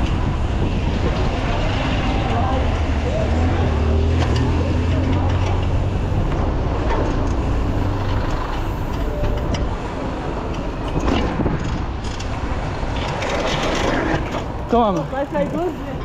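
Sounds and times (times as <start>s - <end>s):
low engine hum: 0.0s - 16.0s
road traffic noise: 0.0s - 16.0s.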